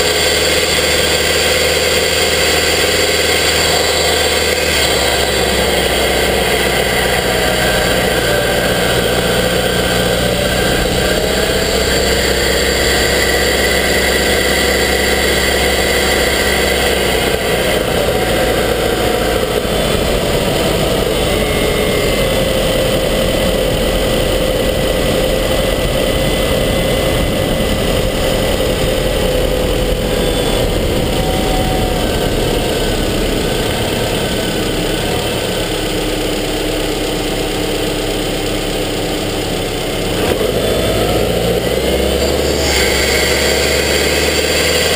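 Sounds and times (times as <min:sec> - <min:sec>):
car engine running close up: 0:00.0 - 0:44.9.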